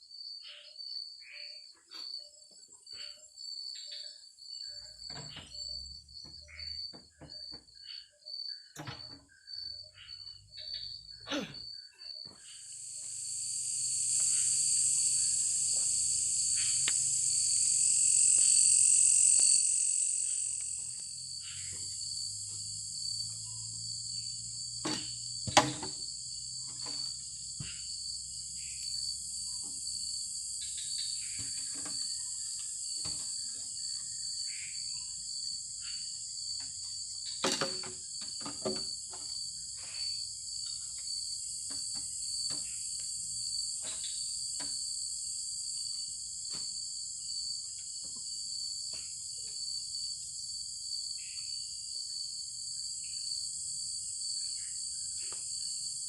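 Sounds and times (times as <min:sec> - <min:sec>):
insects buzzing and trilling: 0:00.0 - 0:56.0.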